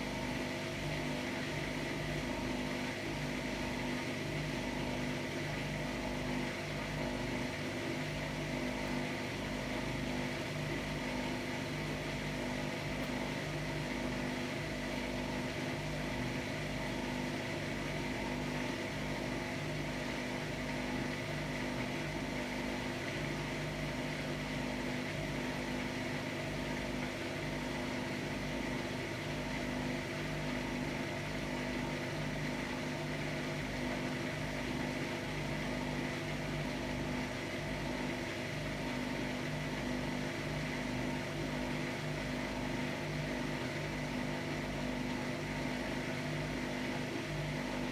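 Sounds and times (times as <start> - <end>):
washer-dryer humming: 0.0 - 47.9.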